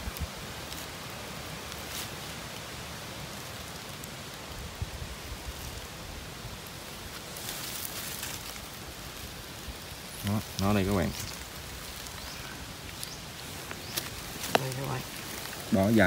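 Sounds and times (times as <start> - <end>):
rain patter: 0.0 - 16.0
rustling hiss: 0.0 - 16.0.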